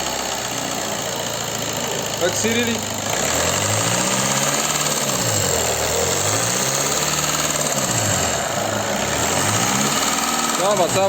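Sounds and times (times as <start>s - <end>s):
diesel engine knocking clatter: 0.0s - 11.0s.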